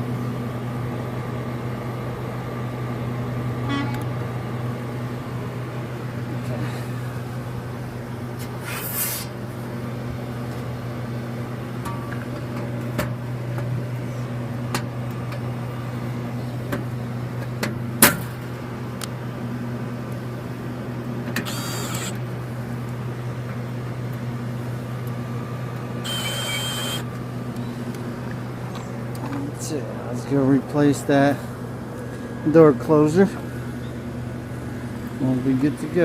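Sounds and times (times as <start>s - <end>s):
refrigeration low electrical hum: 0.0s - 36.0s.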